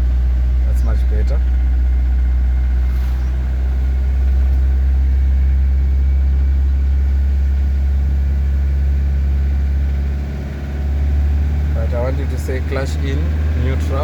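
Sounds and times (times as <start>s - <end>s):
truck engine at low revs: 0.0s - 14.0s.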